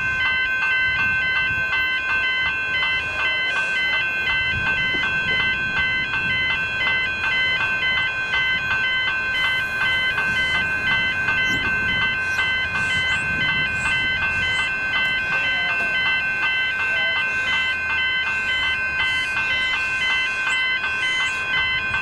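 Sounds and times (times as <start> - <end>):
high electronic tone: 0.0 - 22.0
level-crossing bells ringing: 0.0 - 22.0
low traffic rumble: 0.0 - 22.0.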